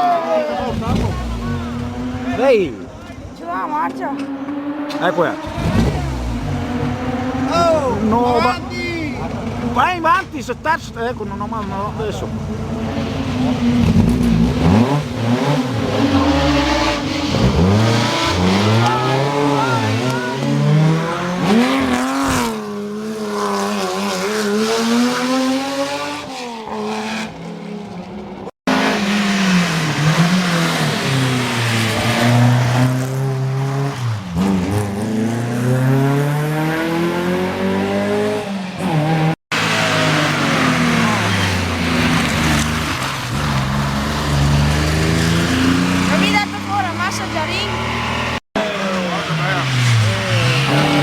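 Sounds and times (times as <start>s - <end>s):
rally car engines revving: 0.0s - 51.0s.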